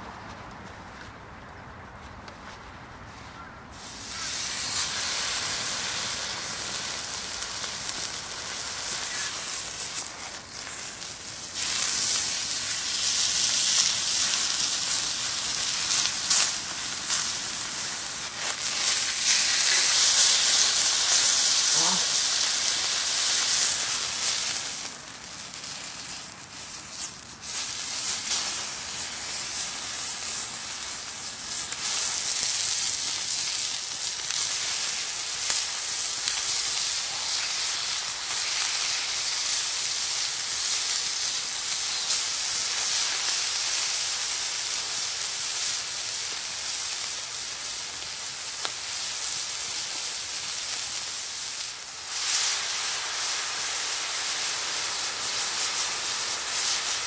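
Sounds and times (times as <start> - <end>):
steak sizzling on a griddle: 3.8 - 57.0.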